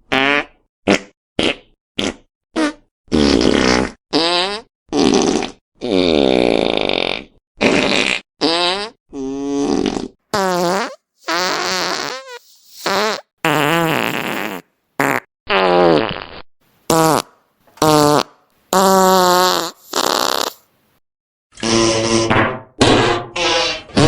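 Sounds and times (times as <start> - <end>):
buzzy fart sounds: 0.1 - 20.7, 21.6 - 24.0.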